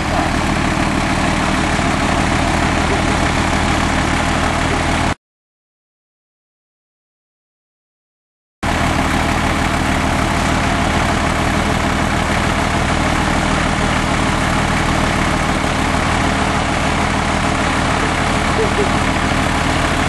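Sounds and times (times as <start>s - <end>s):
diesel tractor engine running: 0.0s - 5.2s, 8.6s - 20.0s.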